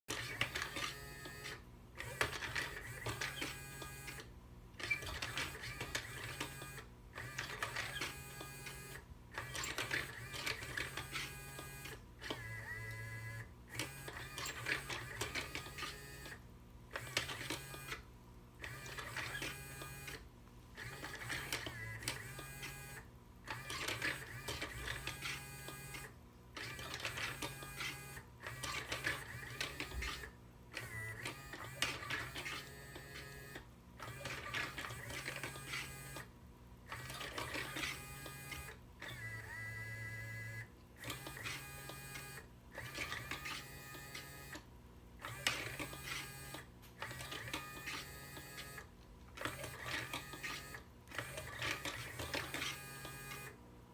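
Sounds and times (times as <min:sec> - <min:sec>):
small electric motor whirring: 0:00.1 - 0:53.6.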